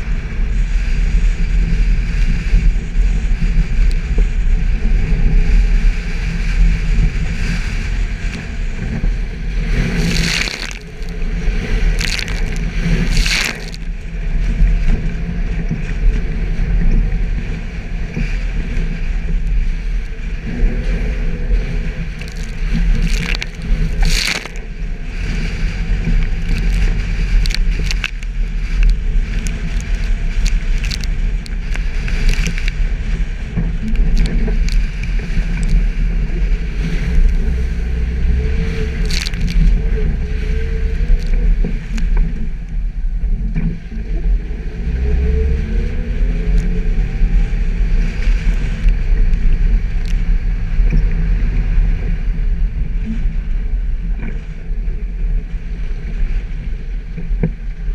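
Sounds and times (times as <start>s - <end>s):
car engine low rumble: 0.0s - 57.9s.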